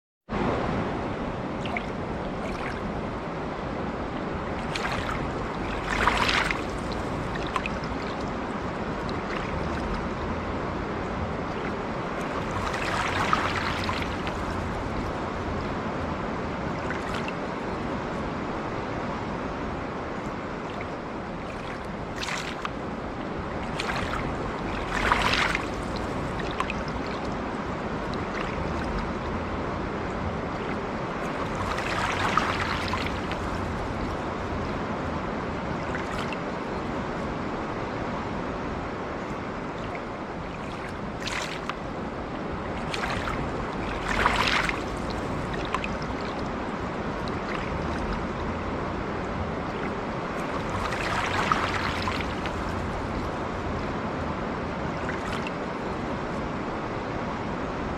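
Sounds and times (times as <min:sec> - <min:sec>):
river flowing: 0:00.4 - 0:57.9
water splashing: 0:01.2 - 0:37.5, 0:38.1 - 0:56.4.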